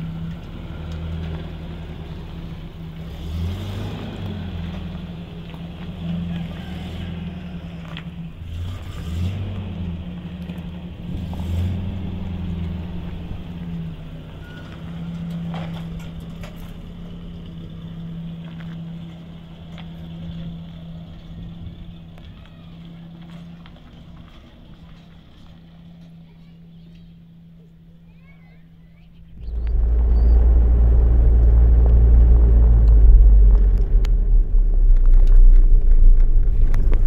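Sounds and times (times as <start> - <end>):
vehicle engine running: 0.0 - 27.9, 29.0 - 37.0.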